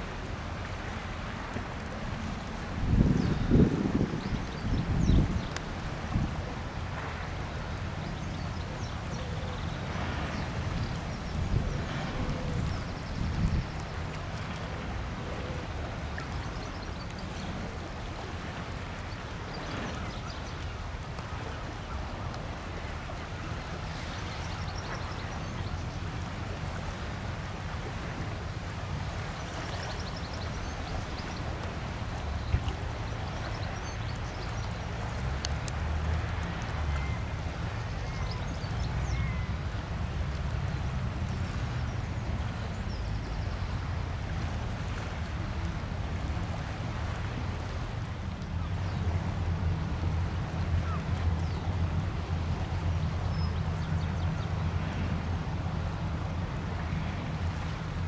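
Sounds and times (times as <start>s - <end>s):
ship engine hum: 0.0s - 58.0s
wind and water noise: 0.0s - 58.0s.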